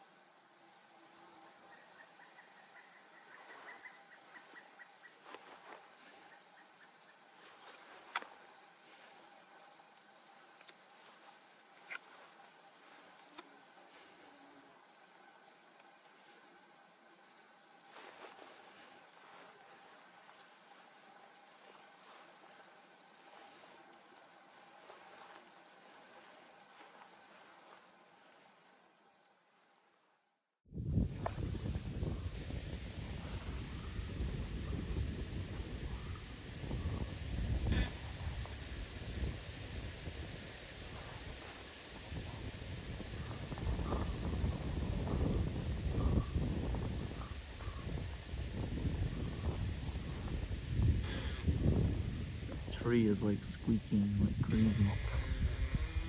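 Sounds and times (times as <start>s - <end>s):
insects trilling: 0.0s - 30.4s, 31.2s - 56.0s.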